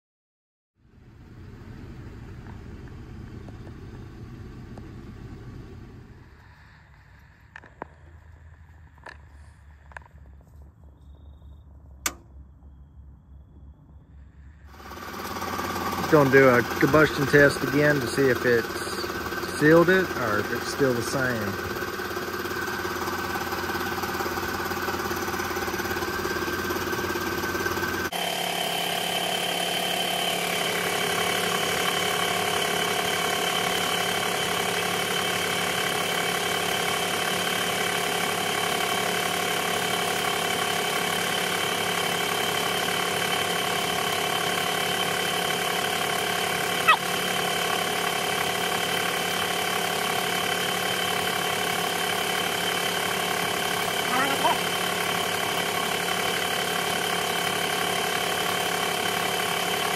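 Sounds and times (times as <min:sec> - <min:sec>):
car engine idling: 0:00.8 - 0:13.5, 0:14.2 - 0:59.9.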